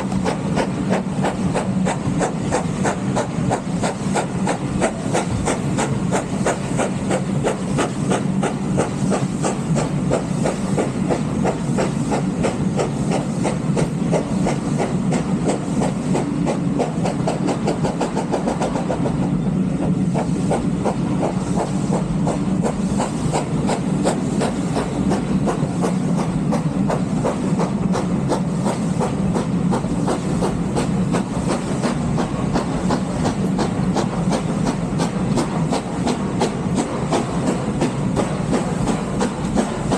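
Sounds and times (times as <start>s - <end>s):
train carriages rumbling: 0.0s - 39.9s
wheels clicking on track: 0.0s - 39.9s.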